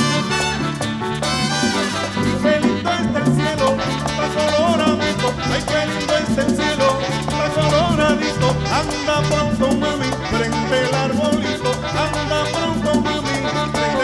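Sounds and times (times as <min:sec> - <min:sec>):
merengue band playing: 0:00.0 - 0:14.0.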